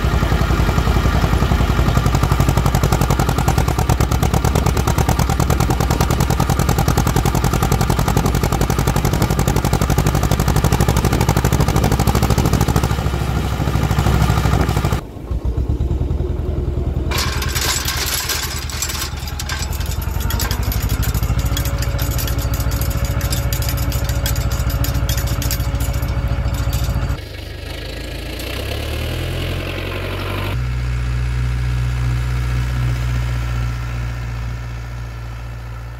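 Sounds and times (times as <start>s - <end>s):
farm machinery engines idling: 0.0s - 32.7s.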